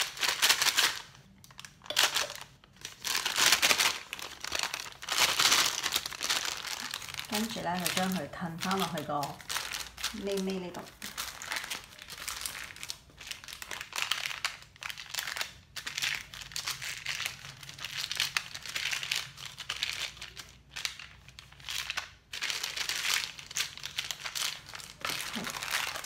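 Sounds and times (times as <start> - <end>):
plastic piping bag crinkling: 0.0 - 26.0.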